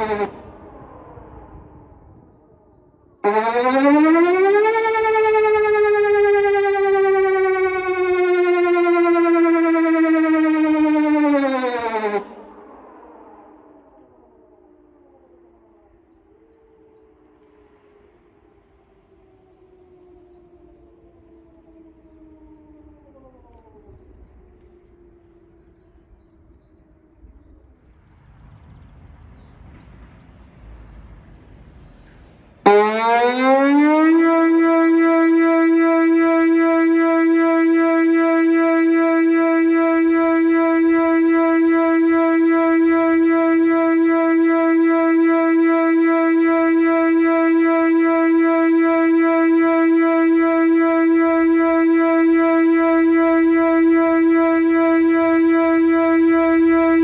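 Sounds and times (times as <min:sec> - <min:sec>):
electronic warning siren: 0:00.0 - 0:27.9, 0:32.6 - 0:57.0.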